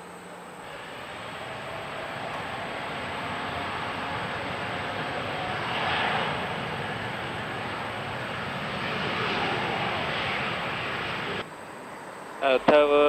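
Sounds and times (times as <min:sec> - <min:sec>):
jet engine roar at takeoff: 0:00.0 - 0:13.0.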